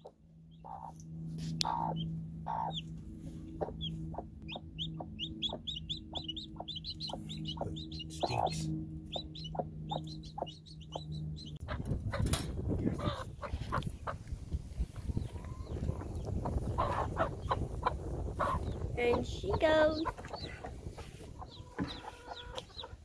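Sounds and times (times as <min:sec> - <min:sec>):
chicks peeping: 0:00.0 - 0:23.0
steady low hum: 0:00.0 - 0:23.0
hen clucking: 0:00.5 - 0:23.0.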